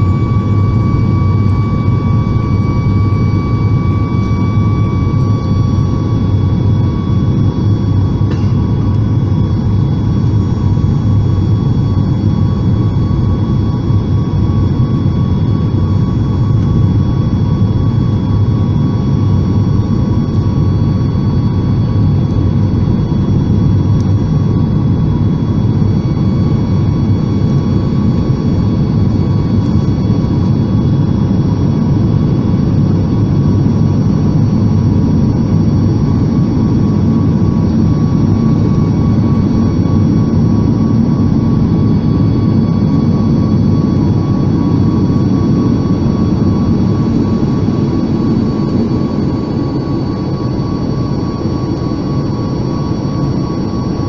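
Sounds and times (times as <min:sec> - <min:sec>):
airplane cabin engine rumble: 0:00.0 - 0:54.0
faint steady whining tones: 0:00.0 - 0:54.0.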